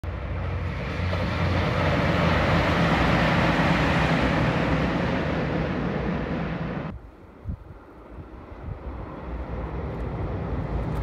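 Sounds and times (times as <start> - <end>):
diesel train crossing bridge: 0.0 - 11.0.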